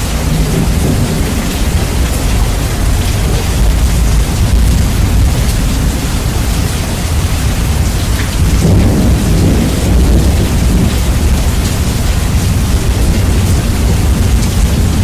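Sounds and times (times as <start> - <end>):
heavy rain: 0.0 - 15.0
rolling thunder: 0.0 - 15.0.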